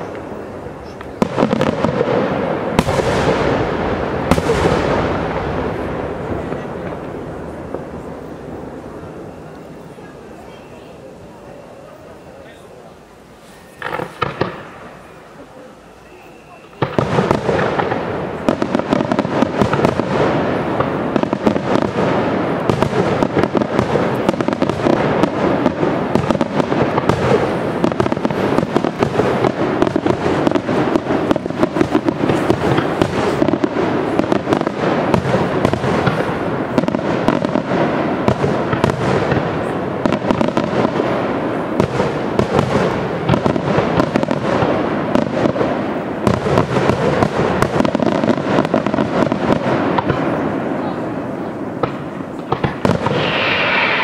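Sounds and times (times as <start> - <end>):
fireworks bursts and bangs: 0.0 - 54.0.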